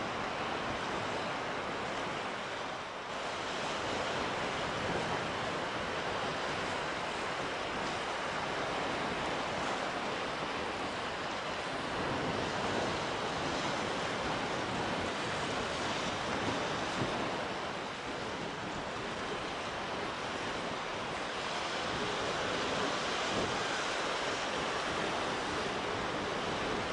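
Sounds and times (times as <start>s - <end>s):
choppy water: 0.0s - 26.9s
strong wind: 0.0s - 26.9s.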